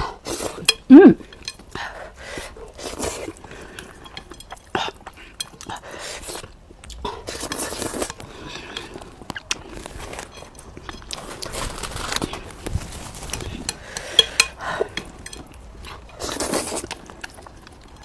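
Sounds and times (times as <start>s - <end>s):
chewing and mouth noises: 0.0s - 18.0s
utensils clinking against dish: 0.3s - 6.5s, 7.4s - 17.4s.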